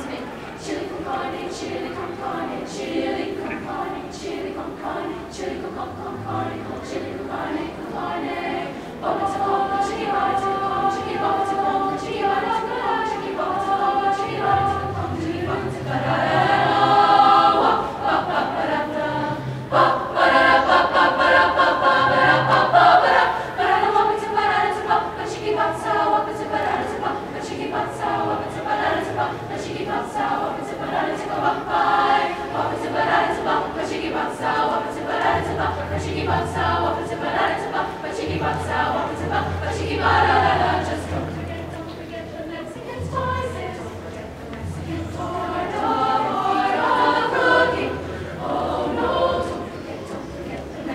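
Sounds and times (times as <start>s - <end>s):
women's choir singing a cappella: 0.0s - 50.9s.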